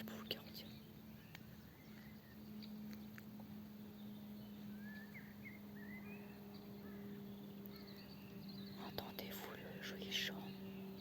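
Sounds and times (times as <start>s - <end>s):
faint songbird chirping: 0.0s - 11.0s
steady low hum: 0.0s - 11.0s.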